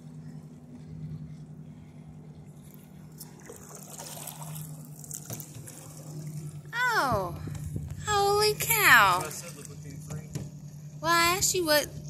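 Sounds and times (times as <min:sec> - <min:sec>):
steady low hum: 0:00.0 - 0:12.0
water lapping against canoe hull: 0:00.0 - 0:12.0.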